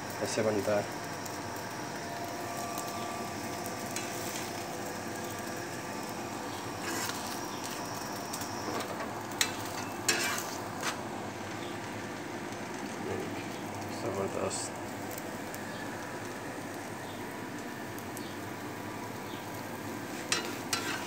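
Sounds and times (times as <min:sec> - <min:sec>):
flatbread sizzling on a griddle: 0:00.0 - 0:21.0.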